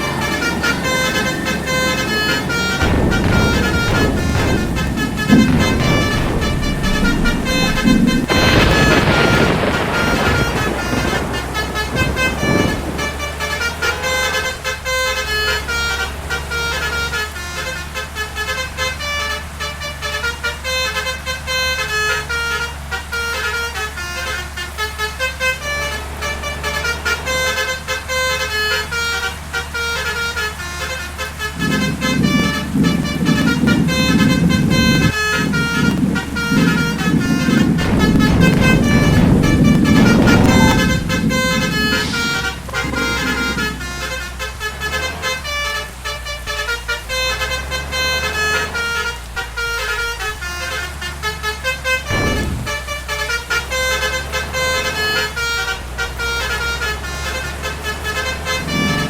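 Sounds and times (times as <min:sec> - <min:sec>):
air horn playing melody: 0:00.0 - 0:59.0
bus engine hum: 0:00.0 - 0:59.0
low vehicle rumble: 0:00.0 - 0:59.0.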